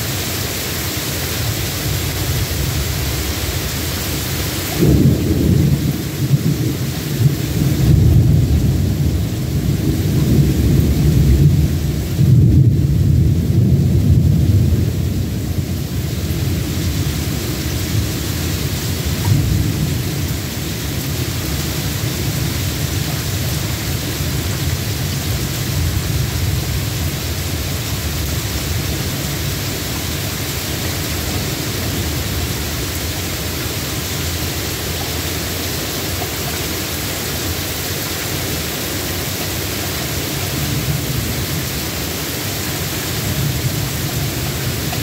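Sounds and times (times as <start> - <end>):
steady rain: 0.0 - 45.0
thunder rumbling: 1.8 - 45.0.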